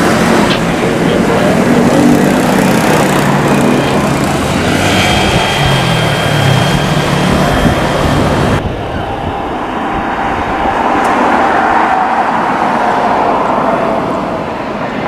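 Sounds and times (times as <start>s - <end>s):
jet engine rumble with whine: 0.0s - 15.0s.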